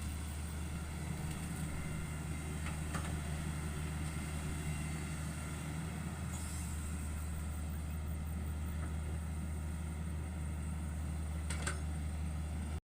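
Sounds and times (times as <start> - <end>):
excavator diesel engine running: 0.0 - 12.8.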